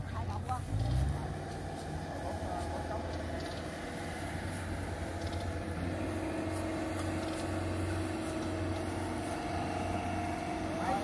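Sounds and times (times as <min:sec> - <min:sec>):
farm machinery engine humming: 0:00.0 - 0:11.0.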